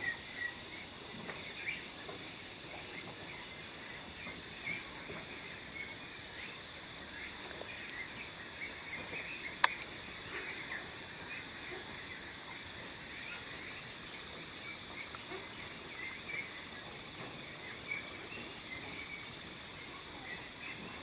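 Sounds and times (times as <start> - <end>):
small chirping calls: 0.0 - 21.0.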